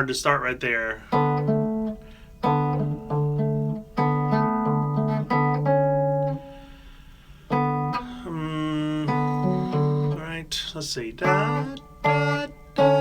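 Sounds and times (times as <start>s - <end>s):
fingerpicked guitar: 0.0s - 13.0s.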